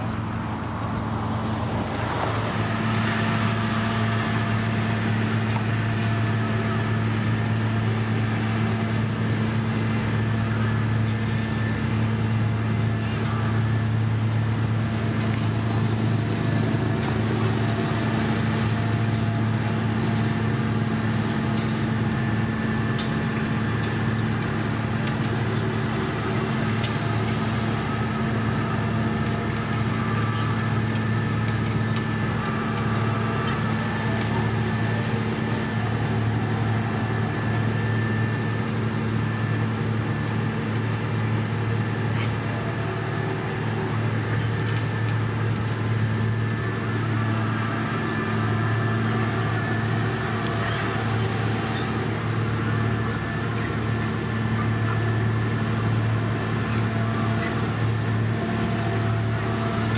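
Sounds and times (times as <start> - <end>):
heavy diesel engines droning: 0.0 - 59.9.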